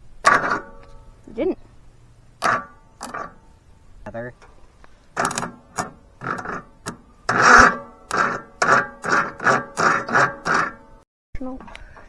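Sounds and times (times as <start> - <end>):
lawn tractor engine cranking: 0.0 - 11.0.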